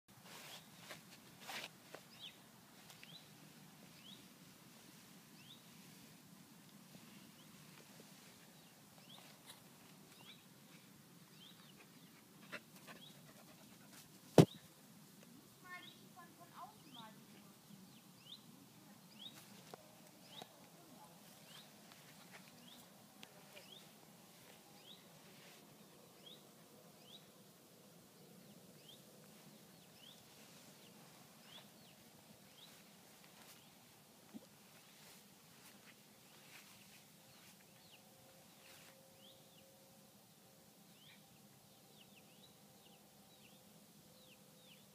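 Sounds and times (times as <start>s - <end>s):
faint bird chirping: 2.0s - 4.4s, 5.3s - 6.1s, 7.0s - 14.8s, 15.6s - 44.9s.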